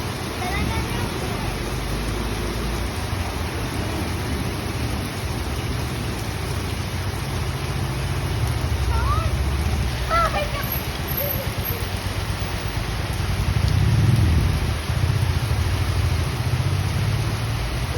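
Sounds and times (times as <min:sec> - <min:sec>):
rain falling: 0:00.0 - 0:17.9.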